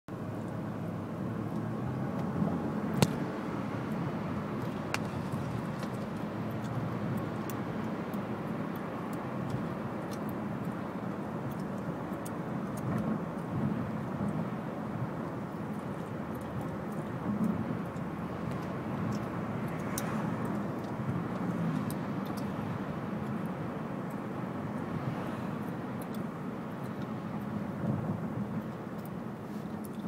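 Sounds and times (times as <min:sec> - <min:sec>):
car cabin road and engine noise: 0:00.1 - 0:30.0.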